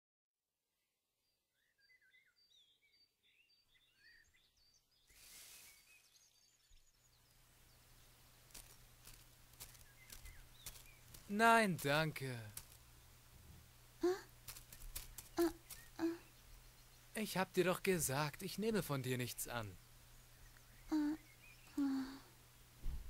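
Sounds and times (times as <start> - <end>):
small birds chirping: 1.2 - 23.0
soft steady hiss: 4.5 - 23.0.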